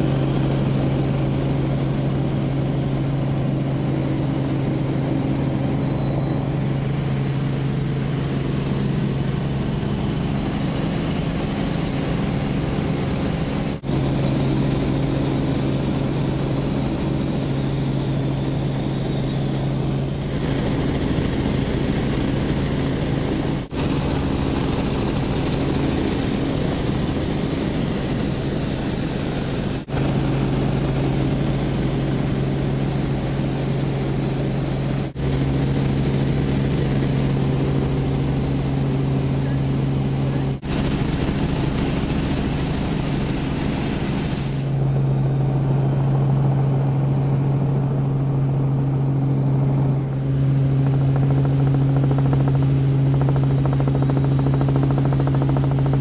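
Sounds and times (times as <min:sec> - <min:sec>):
helicopter engine and rotors droning: 0:00.0 - 0:56.0.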